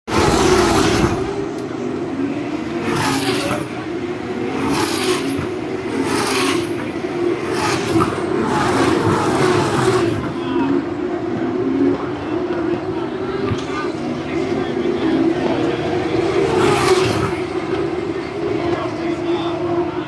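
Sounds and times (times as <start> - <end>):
racing cars passing at speed: 0.1 - 20.0.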